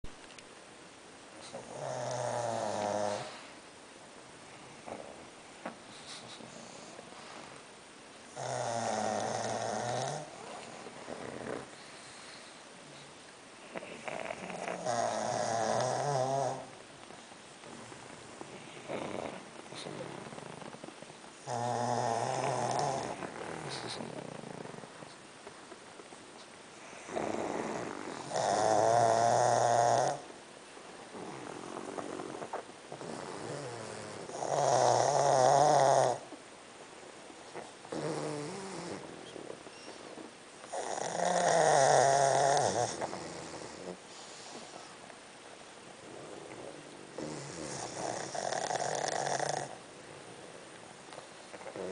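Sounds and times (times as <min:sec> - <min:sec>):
dogs snoring: 0:01.4 - 0:03.6, 0:04.5 - 0:07.6, 0:08.3 - 0:25.2, 0:26.7 - 0:30.4, 0:31.1 - 0:36.4, 0:37.5 - 0:45.1, 0:46.0 - 0:51.9.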